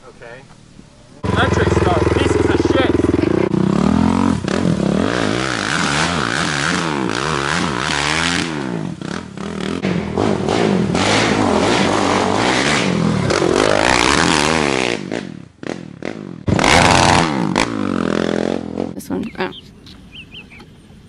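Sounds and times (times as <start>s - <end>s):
quad engine revving: 1.2s - 20.6s.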